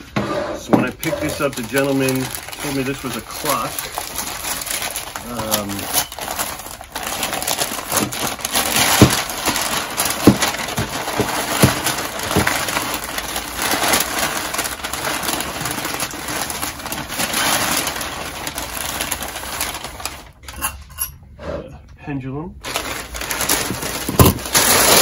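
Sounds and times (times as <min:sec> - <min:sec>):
packing paper rustling: 0:00.8 - 0:20.7, 0:22.6 - 0:25.0.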